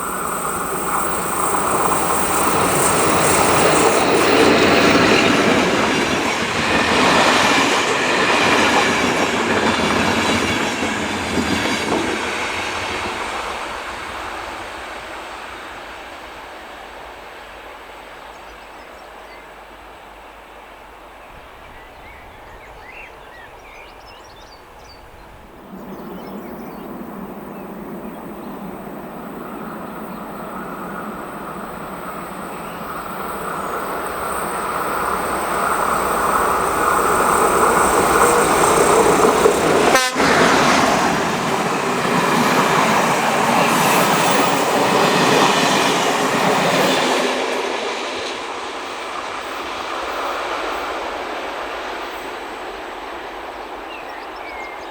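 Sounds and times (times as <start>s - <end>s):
wheels rumbling on rails: 0.0s - 14.9s, 25.3s - 54.9s
passing train: 0.0s - 54.9s.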